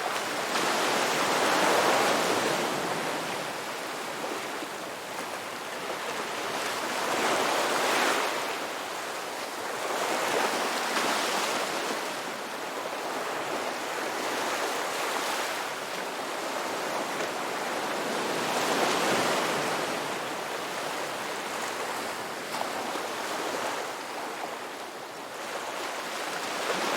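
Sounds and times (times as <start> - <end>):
ocean waves breaking on beach: 0.0 - 26.9.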